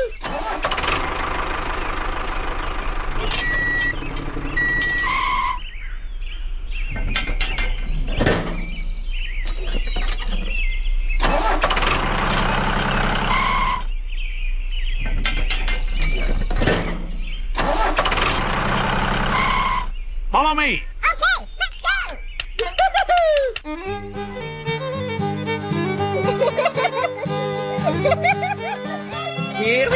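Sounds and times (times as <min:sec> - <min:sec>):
diesel tractor engine: 0:00.0 - 0:22.6, 0:23.5 - 0:29.9.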